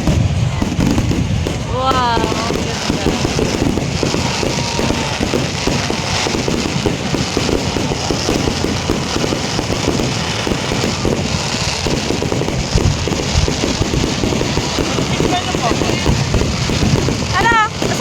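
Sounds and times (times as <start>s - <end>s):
fireworks crackling and popping: 0.0s - 18.0s.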